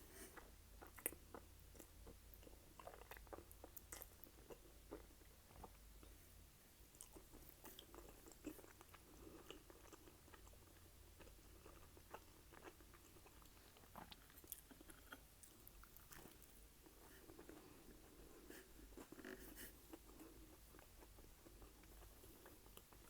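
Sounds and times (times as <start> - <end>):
close-miked chewing: 0.2 - 6.2, 6.9 - 23.0.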